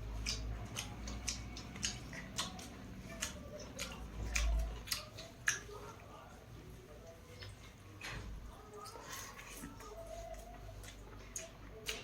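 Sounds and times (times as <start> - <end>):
chewing mouth clicks and smacks: 0.0 - 6.1, 7.1 - 12.0.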